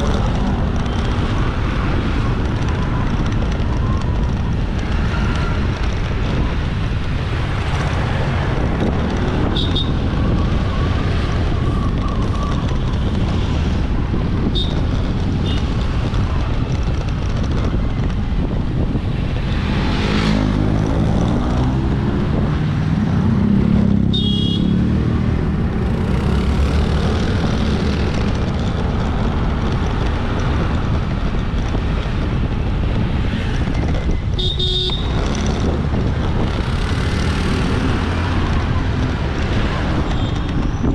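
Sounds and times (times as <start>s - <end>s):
motorbike engine and road noise: 0.0s - 40.9s
wind rush on microphone: 0.0s - 40.9s.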